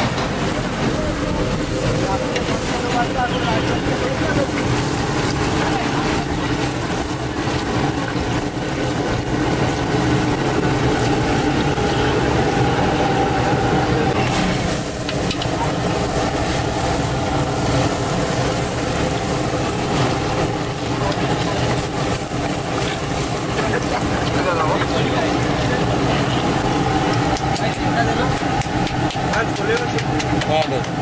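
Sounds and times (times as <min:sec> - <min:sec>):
dough deep-frying in oil: 0:00.0 - 0:31.0.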